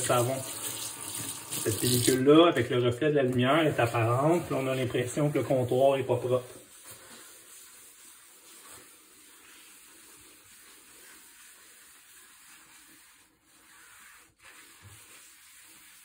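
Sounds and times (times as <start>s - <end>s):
hand rubbing wet countertop: 0.0s - 16.0s.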